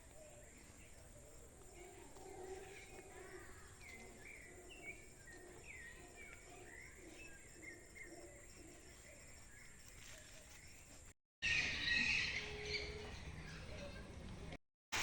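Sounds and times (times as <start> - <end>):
birds chirping faintly: 0.0 - 14.6.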